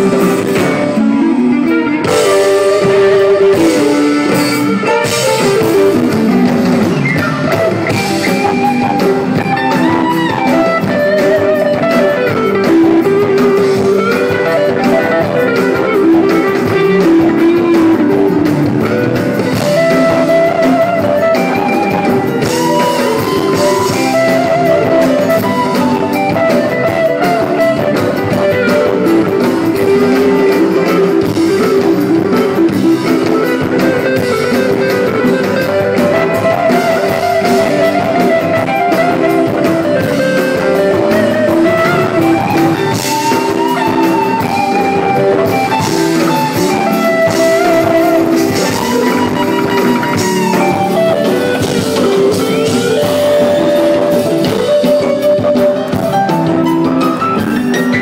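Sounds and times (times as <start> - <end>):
bass guitar: 0.0 - 58.0
drums: 0.0 - 58.0
guitar melody: 0.0 - 58.0.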